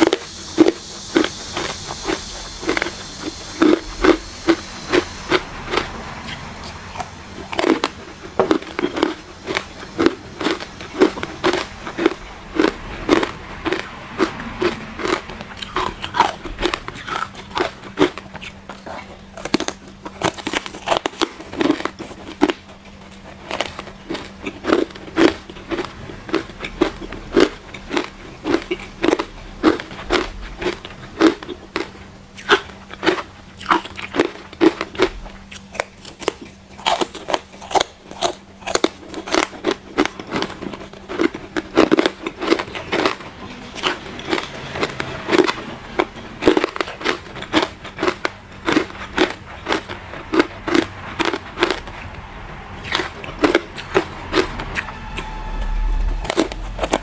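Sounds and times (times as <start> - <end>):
faint steady hum: 0.0 - 57.0
ice being chewed and crunched: 0.0 - 57.0.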